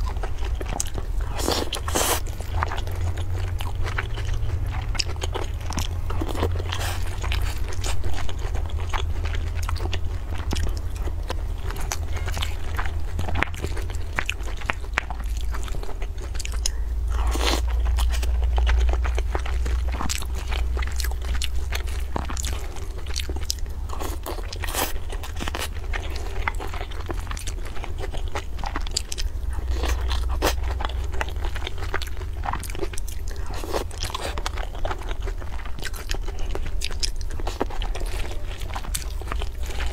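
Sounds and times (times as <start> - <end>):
person chewing and crunching food: 0.0 - 39.9
steady low hum: 0.0 - 39.9.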